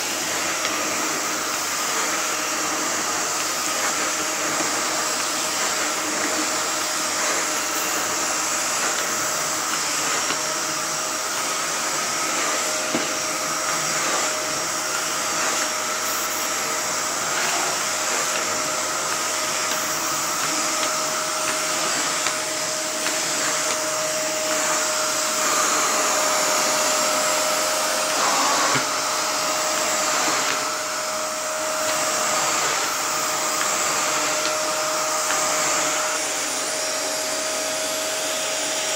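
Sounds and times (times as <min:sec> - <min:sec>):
brush head pushed over rug: 0:00.0 - 0:38.9
vacuum cleaner running: 0:00.0 - 0:38.9.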